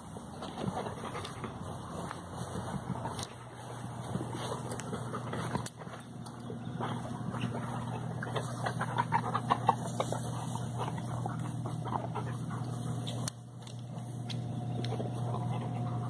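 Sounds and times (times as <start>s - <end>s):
dogs sniffing the ground: 0.0s - 16.0s
steady low hum: 0.0s - 16.0s.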